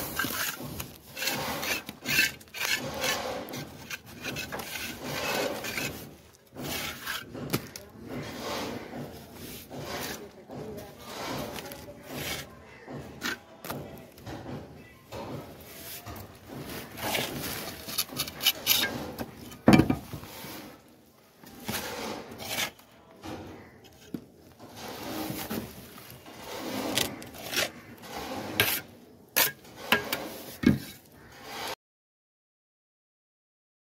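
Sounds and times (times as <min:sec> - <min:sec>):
trowel scraping cement plaster: 0:00.0 - 0:31.8.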